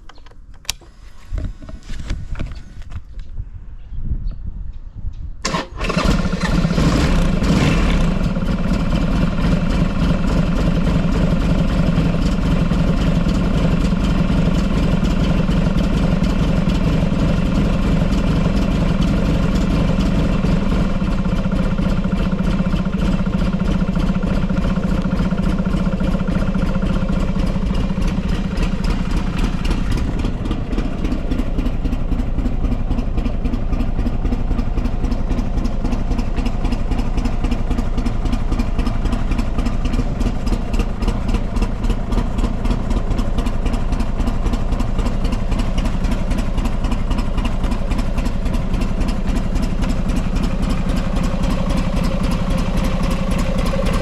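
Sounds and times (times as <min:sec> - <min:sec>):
motorcycle engine starting and idling: 0:05.4 - 0:54.0.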